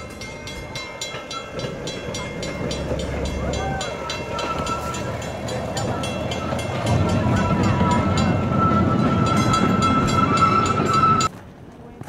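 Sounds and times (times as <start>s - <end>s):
small train rolling past: 0.0s - 11.4s.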